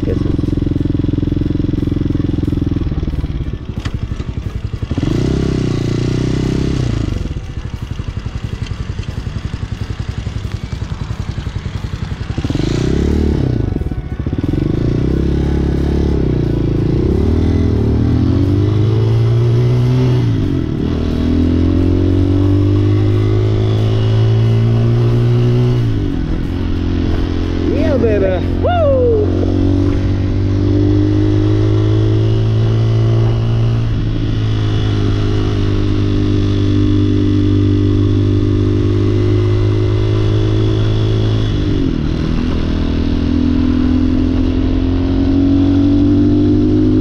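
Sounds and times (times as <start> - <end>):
motorcycle engine: 0.0 - 47.0.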